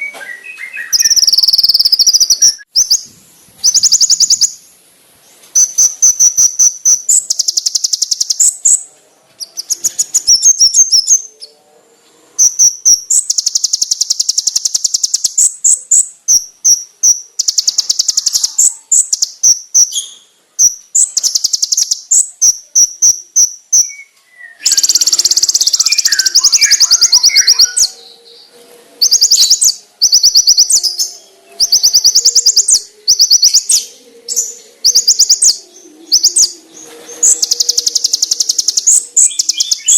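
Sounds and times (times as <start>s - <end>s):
bird trilling and chattering: 0.0s - 4.6s, 5.6s - 11.6s, 12.4s - 39.9s.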